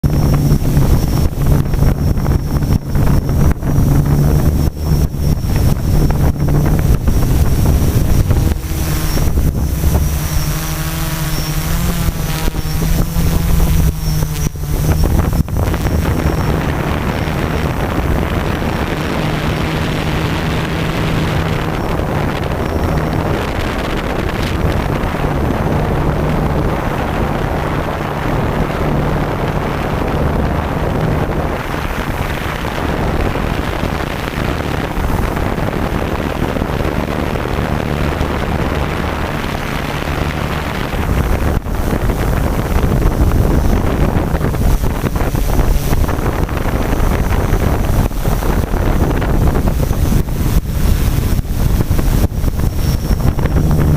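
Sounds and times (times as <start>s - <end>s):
even rushing noise: 0.0s - 53.9s
high thin whine: 0.0s - 53.9s
motor hum: 0.0s - 53.9s
wind buffeting microphone: 0.0s - 53.9s.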